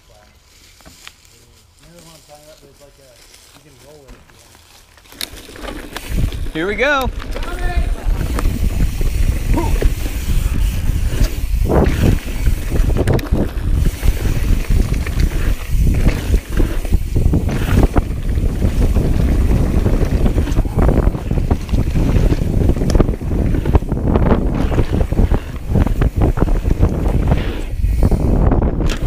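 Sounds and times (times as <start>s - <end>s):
bike tyre noise on dirt: 0.0s - 29.0s
bike clattering over bumps: 5.0s - 29.0s
wind buffeting microphone: 5.7s - 29.0s.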